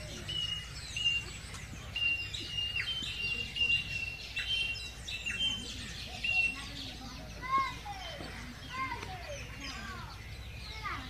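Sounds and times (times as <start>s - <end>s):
birds whistling calls: 0.0s - 11.0s
low background noise: 0.0s - 11.0s.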